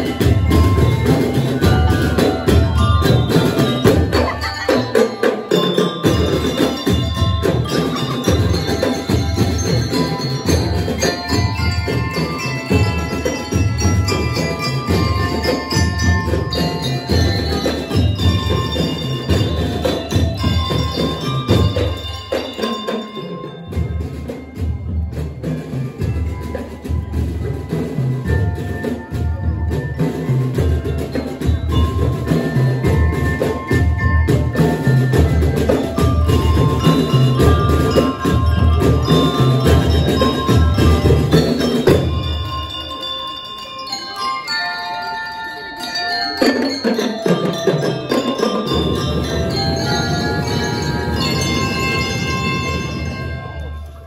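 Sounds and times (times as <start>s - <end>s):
bell lyre melody: 0.0s - 54.0s.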